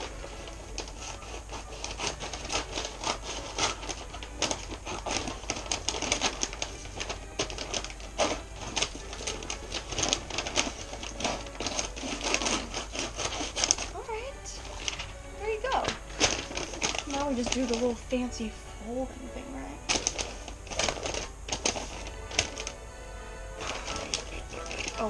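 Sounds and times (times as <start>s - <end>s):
scissors cutting paper: 0.0s - 18.6s, 19.4s - 22.8s, 23.4s - 25.0s
paper crinkling and rustling: 0.0s - 25.0s.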